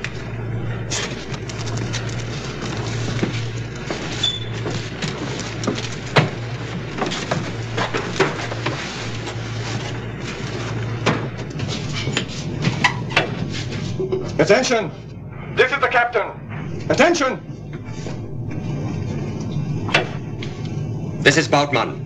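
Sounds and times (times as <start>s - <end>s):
low hum pulsing: 0.0s - 22.0s.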